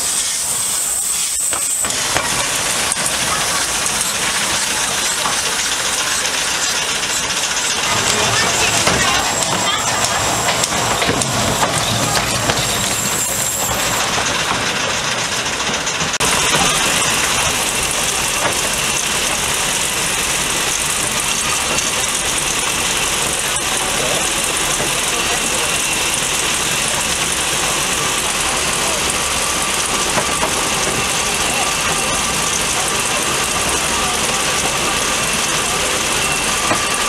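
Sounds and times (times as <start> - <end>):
steam hissing: 0.0 - 37.0
steam locomotive running: 0.0 - 37.0.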